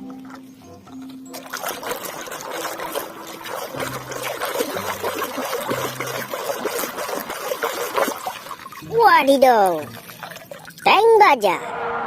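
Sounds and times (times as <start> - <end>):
water running and splashing: 0.0 - 11.2.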